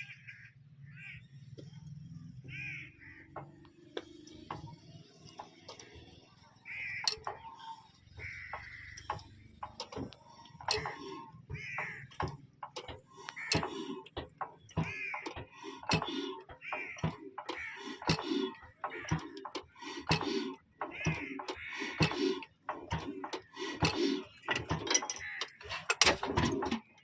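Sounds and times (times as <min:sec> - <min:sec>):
crows cawing: 0:00.0 - 0:01.6, 0:02.4 - 0:04.1, 0:06.6 - 0:26.0
sharp clicks: 0:03.4 - 0:27.0.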